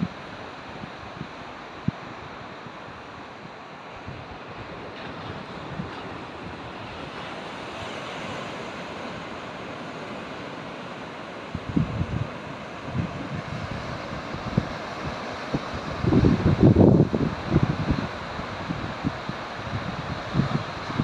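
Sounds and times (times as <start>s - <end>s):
wind buffeting microphone: 0.0s - 7.9s, 11.5s - 21.0s
ocean surf breaking: 0.0s - 21.0s.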